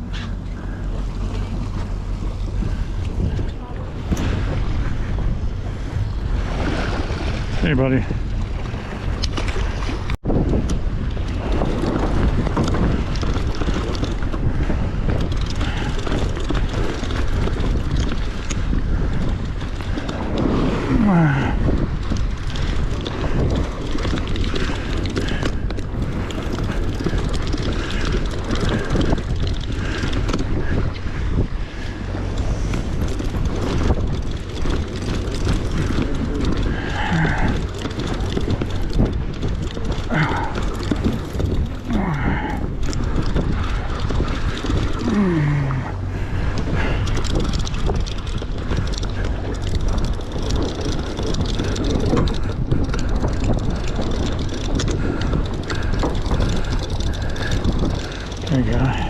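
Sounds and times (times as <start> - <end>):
boat engine low rumble: 0.0 - 59.0
wind buffeting microphone: 0.0 - 59.0.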